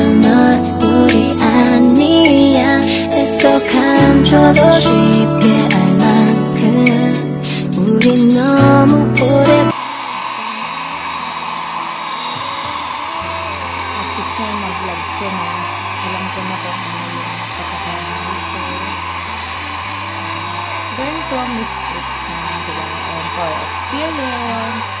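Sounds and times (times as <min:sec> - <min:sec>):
hair dryer running: 0:00.0 - 0:08.6, 0:09.4 - 0:25.0
song playing: 0:00.0 - 0:25.0.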